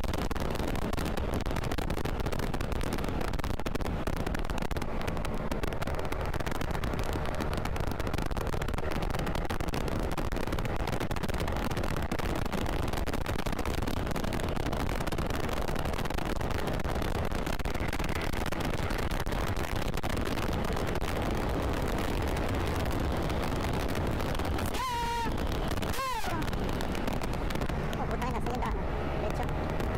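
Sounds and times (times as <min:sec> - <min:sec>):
motorcycle engine running: 0:00.0 - 0:29.9
wind buffeting microphone: 0:00.0 - 0:29.9.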